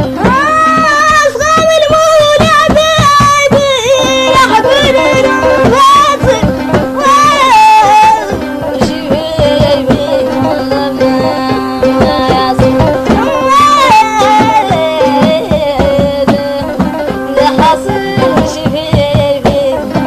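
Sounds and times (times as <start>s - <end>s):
hand drum strokes: 0.0s - 20.0s
person singing ornamented notes: 0.0s - 20.0s
steady drone: 0.0s - 20.0s.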